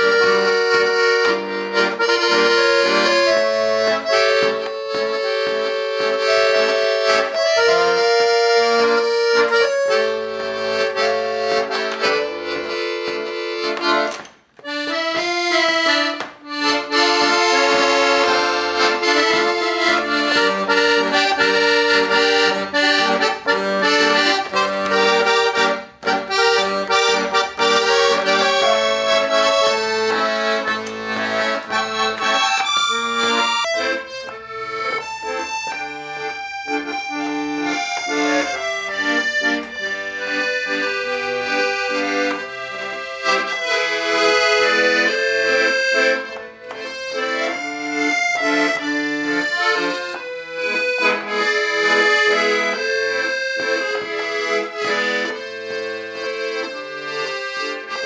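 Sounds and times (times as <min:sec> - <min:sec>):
accordion playing a tune: 0:00.0 - 0:58.0.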